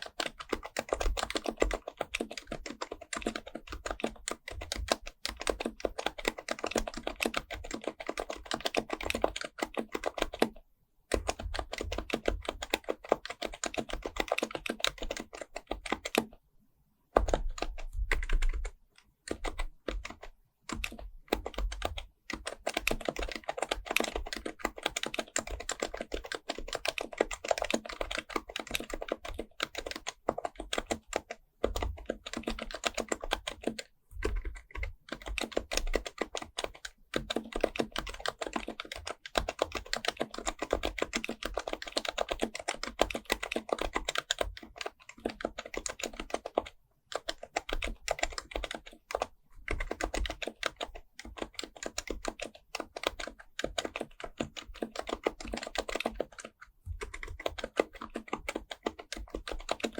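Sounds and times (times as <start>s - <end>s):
fast keyboard typing: 0.0s - 16.4s, 17.2s - 59.9s.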